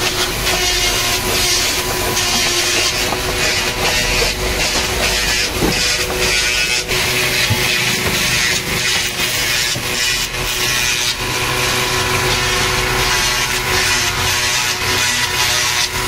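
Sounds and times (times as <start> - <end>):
wood being sawn: 0.0 - 16.0
woodworking machinery hum: 0.0 - 16.0.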